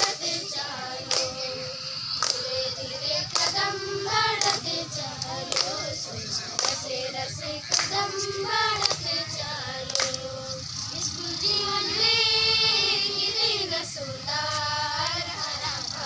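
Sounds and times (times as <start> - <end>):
girls singing a dance song: 0.0 - 16.0.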